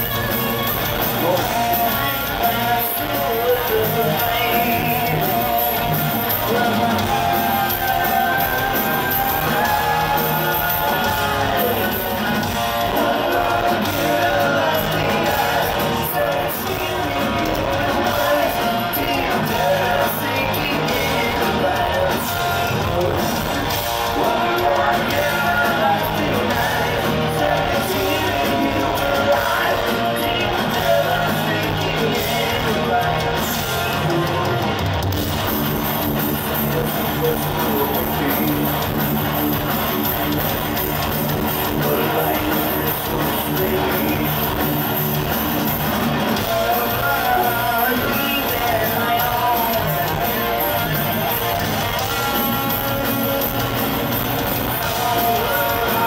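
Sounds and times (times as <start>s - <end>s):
person singing: 0.0s - 34.8s, 35.7s - 56.0s
crowd shouting along: 0.0s - 56.0s
distorted electric guitars: 0.0s - 56.0s
drums: 0.0s - 56.0s.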